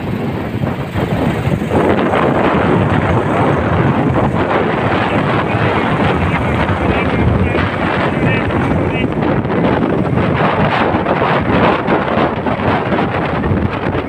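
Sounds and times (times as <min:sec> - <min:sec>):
motorcycle engine: 0:00.0 - 0:14.0
road noise: 0:00.0 - 0:14.0
wind buffeting microphone: 0:00.0 - 0:14.0.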